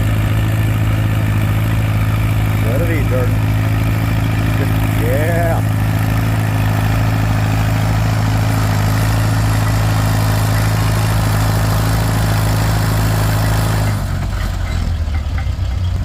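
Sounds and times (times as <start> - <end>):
tractor engine running hard: 0.0 - 16.0.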